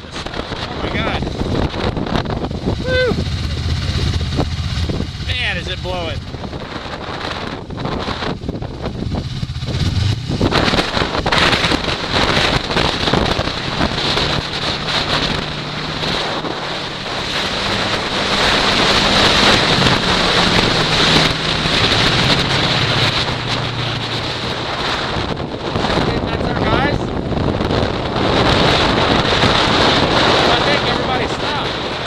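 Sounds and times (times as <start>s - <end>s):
snowmobile engine running: 0.0s - 32.0s
wind buffeting microphone: 0.0s - 32.0s.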